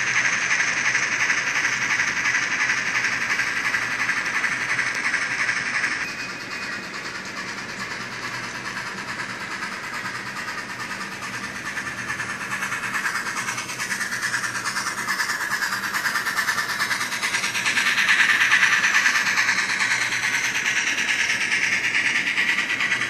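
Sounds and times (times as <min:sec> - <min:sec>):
model train wheels on track: 0:00.0 - 0:23.0
steam chuffing through small speaker: 0:00.0 - 0:23.0.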